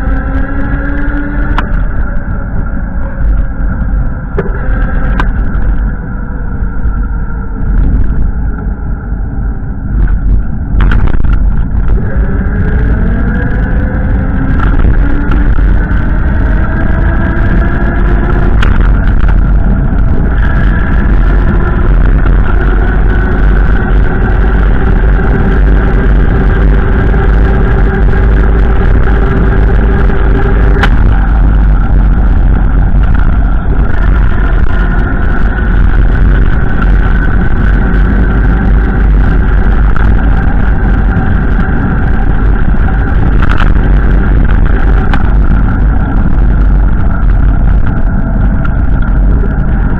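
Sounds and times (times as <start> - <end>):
vehicle engine rumble: 0.0 - 49.9.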